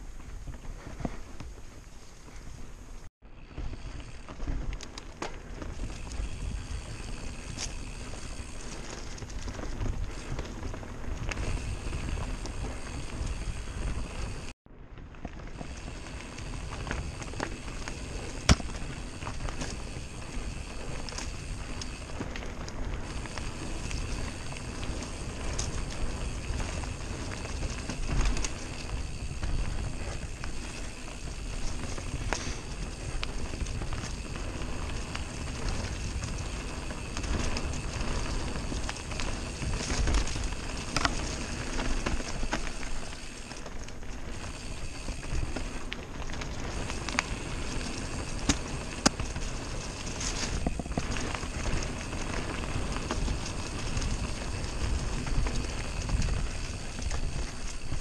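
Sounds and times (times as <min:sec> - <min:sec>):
bike rattling over bumps: 0:00.0 - 0:58.0
bike tyres crackling over dirt: 0:00.0 - 0:58.0.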